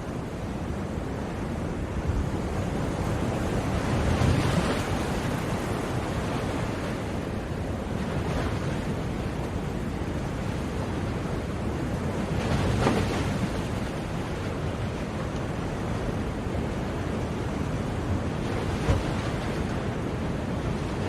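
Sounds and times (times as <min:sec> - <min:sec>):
sea surf waves: 0:00.0 - 0:21.0.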